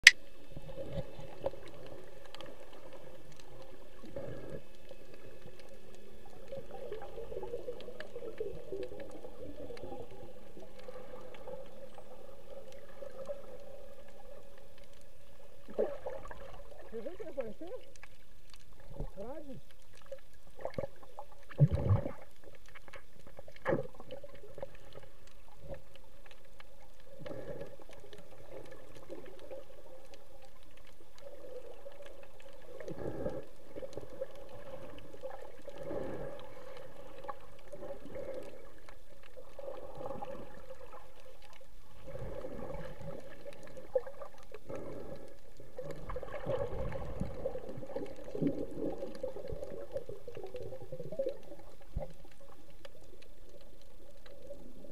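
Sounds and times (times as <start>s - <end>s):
dull underwater hum: 0.0s - 54.9s.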